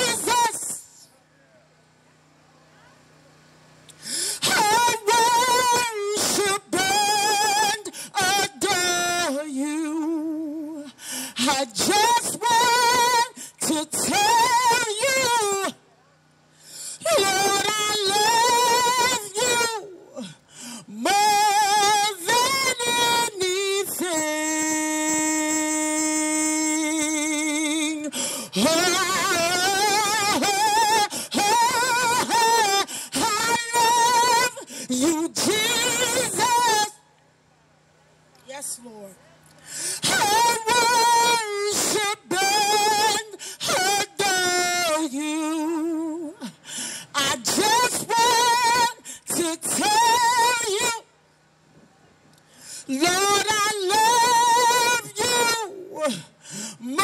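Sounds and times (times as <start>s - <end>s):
woman singing unaccompanied: 0.0s - 1.0s, 4.4s - 15.8s, 17.0s - 37.0s, 40.0s - 51.1s, 52.9s - 57.0s.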